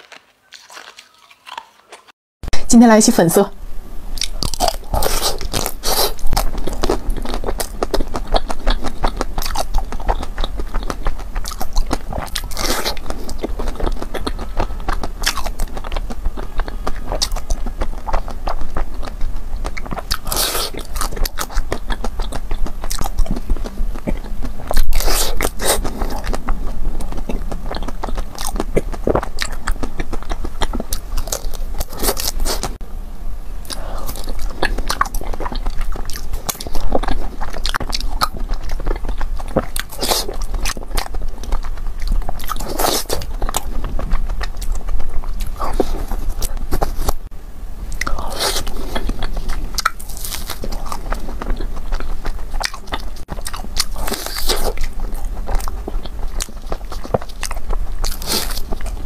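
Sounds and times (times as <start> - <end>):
person chewing ice cream: 0.0 - 2.2, 4.2 - 32.8, 33.6 - 47.3, 47.9 - 59.0.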